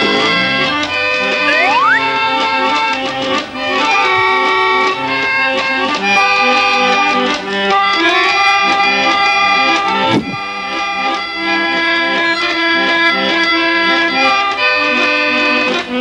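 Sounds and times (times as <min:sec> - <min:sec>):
barrel organ tune: 0:00.0 - 0:16.0.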